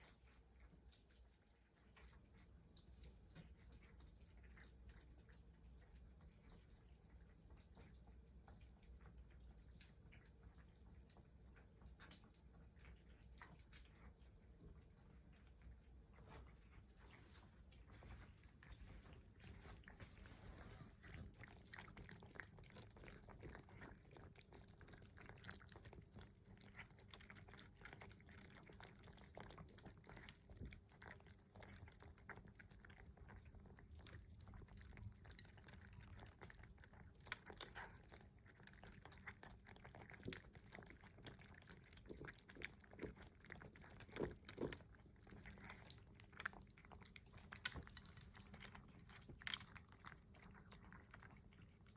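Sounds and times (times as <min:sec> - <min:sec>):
cats chewing: 0:00.0 - 0:51.9.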